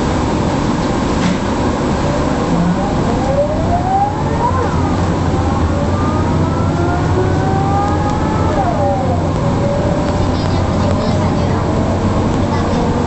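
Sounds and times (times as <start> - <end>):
bus diesel engine droning: 0.0 - 13.0
driveline whine: 1.6 - 13.0.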